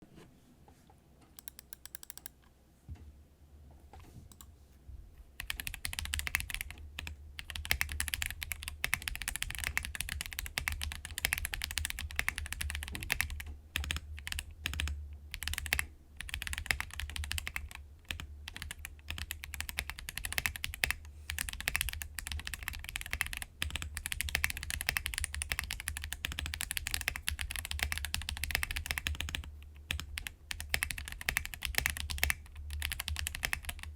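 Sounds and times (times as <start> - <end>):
mechanical keyboard typing: 1.4 - 2.4, 5.4 - 33.9.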